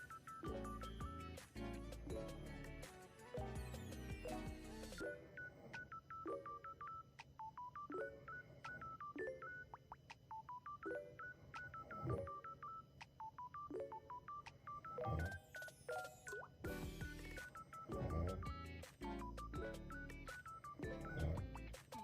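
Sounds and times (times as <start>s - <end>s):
electronic beep melody: 0.0s - 2.8s, 3.4s - 22.0s.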